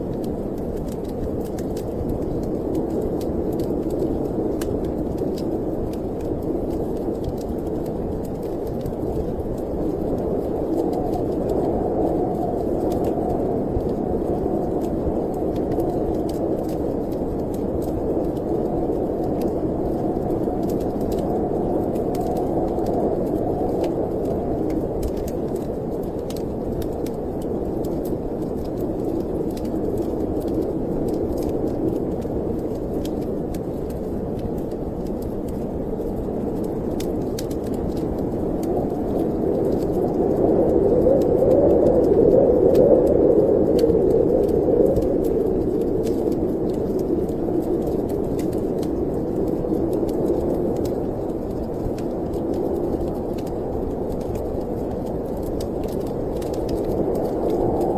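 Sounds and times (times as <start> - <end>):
wind blowing: 0.0 - 57.9
wood fire crackling: 0.0 - 57.9.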